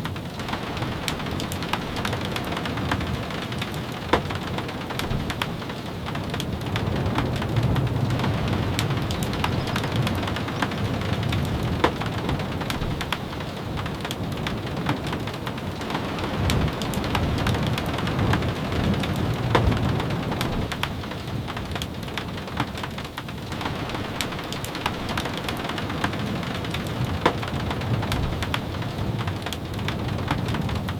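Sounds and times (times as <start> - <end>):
rain on a wooden cabin: 0.0 - 30.9.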